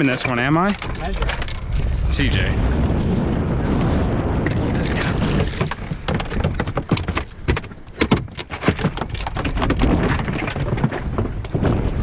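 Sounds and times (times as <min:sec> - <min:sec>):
knocks and clatters on a boat: 0:00.0 - 0:02.0, 0:04.3 - 0:12.0
wind and sea rushing: 0:00.0 - 0:12.0.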